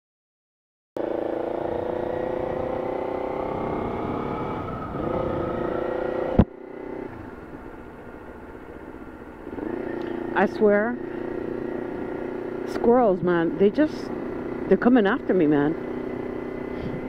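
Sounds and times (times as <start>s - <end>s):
motorcycle engine running: 1.0s - 17.0s.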